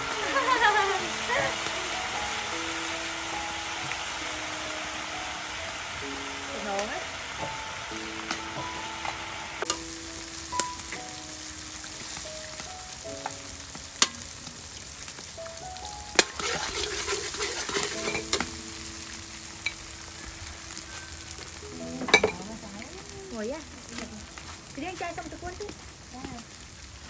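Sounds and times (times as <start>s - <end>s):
eggs sizzling in oil: 0.0s - 27.0s.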